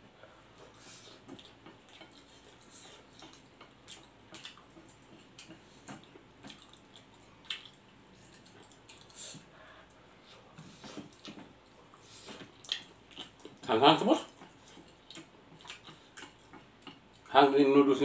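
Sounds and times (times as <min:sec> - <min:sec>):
man chewing noodles: 0:00.1 - 0:17.3.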